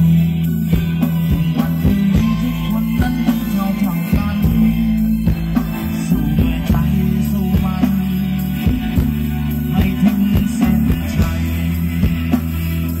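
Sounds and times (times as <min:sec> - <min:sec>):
bass: 0:00.0 - 0:13.0
drums with steady beat: 0:00.0 - 0:13.0
electric guitar: 0:00.0 - 0:13.0
live band dance music: 0:00.0 - 0:13.0.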